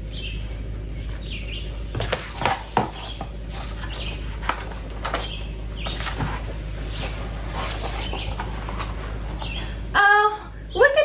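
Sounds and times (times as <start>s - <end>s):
book pages rustling: 0.0s - 9.7s
birds chirping: 0.0s - 11.0s.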